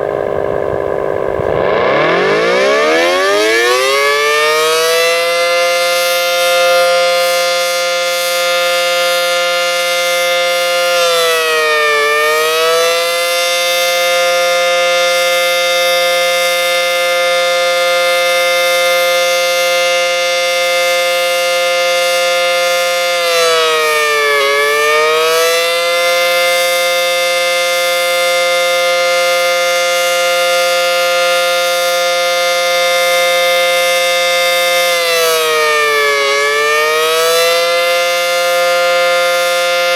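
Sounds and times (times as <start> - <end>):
electromechanical siren: 0.0 - 39.9.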